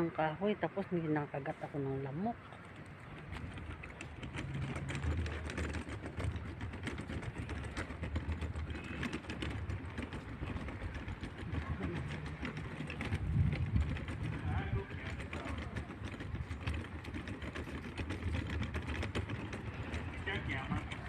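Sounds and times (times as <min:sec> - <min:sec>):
vehicle engine hum: 0:00.0 - 0:21.0
rapid rattling clicks: 0:02.2 - 0:21.0.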